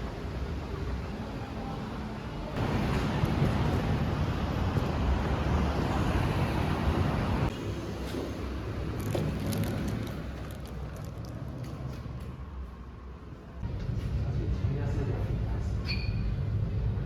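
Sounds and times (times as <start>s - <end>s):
vehicle and road rumble: 0.0s - 17.0s.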